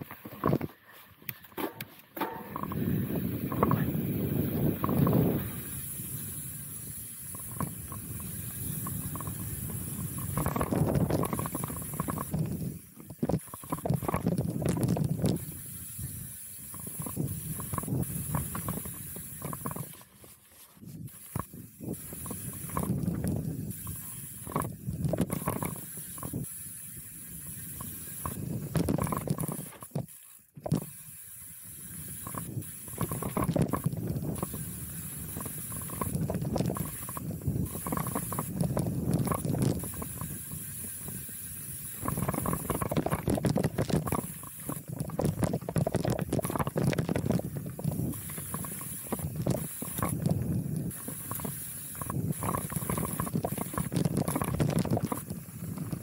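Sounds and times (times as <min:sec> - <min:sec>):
bike tyres crunching over dirt: 0:00.0 - 0:56.0
bike chain rattling and clicking: 0:01.4 - 0:20.3, 0:21.0 - 0:56.0
wind on microphone: 0:02.4 - 0:20.0, 0:20.8 - 0:26.5, 0:27.4 - 0:30.9, 0:32.1 - 0:41.3, 0:41.9 - 0:56.0.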